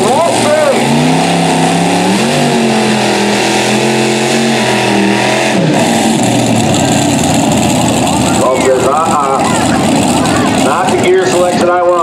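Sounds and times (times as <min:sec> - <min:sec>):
tractor engine at high revs: 0:00.0 - 0:12.0.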